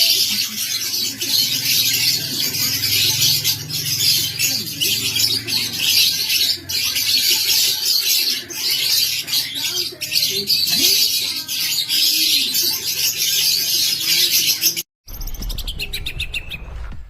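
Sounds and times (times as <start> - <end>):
lovebirds twittering: 0.0 - 16.7.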